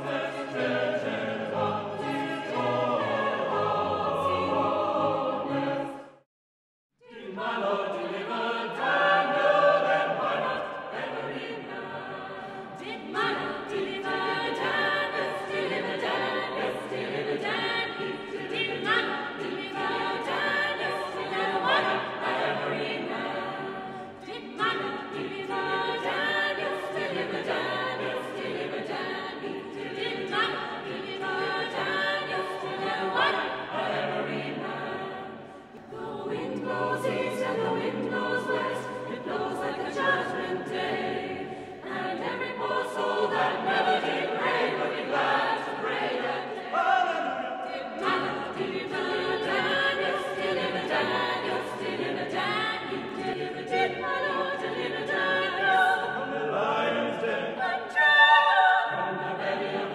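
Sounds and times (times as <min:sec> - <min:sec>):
choir singing in parts: 0:00.0 - 0:06.2, 0:07.0 - 0:59.9.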